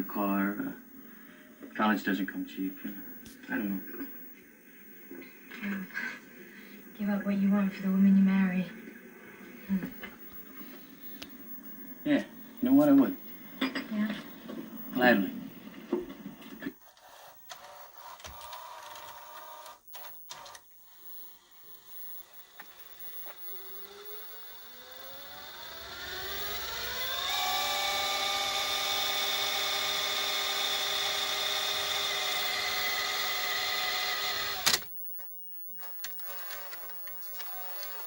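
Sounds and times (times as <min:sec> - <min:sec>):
motor whine: 0:00.0 - 0:38.0.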